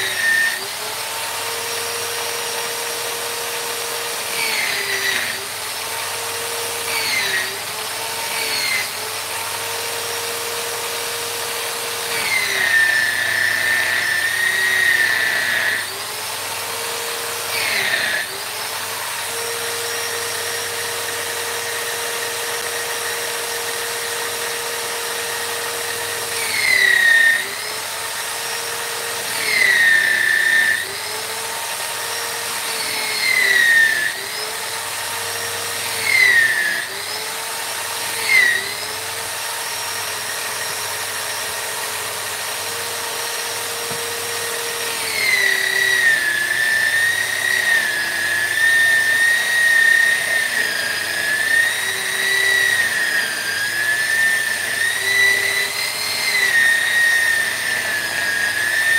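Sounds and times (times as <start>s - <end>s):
rotary carving tool whining: 0.0s - 58.9s.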